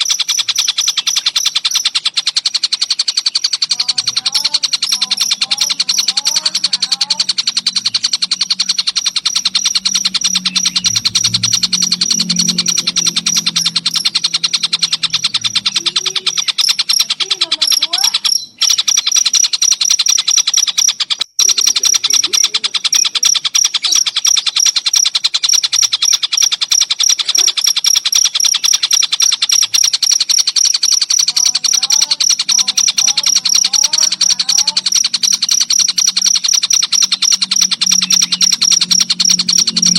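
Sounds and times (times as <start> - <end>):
bird calls: 0.0 - 39.9
cricket trilling: 0.0 - 39.9.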